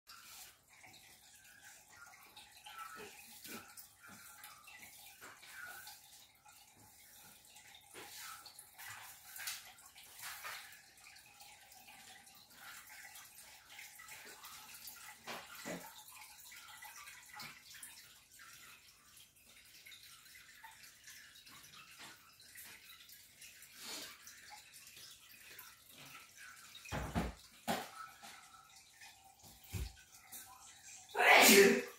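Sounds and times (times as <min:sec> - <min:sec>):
aquarium water trickling and bubbling: 0:00.1 - 0:31.9.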